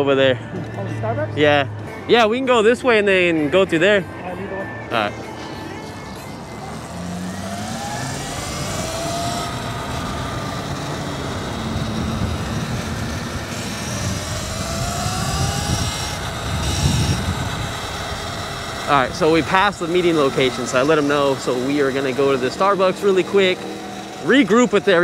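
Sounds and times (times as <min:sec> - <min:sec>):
road and wind noise: 0:00.0 - 0:25.0
thin electric motor whine: 0:04.8 - 0:25.0.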